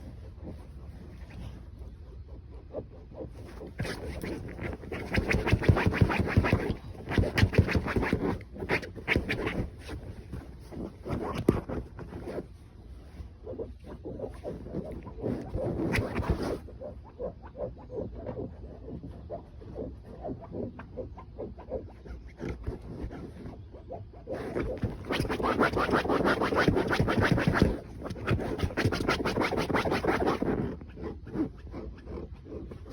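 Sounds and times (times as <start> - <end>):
dog scratching and digging: 0.0 - 32.9.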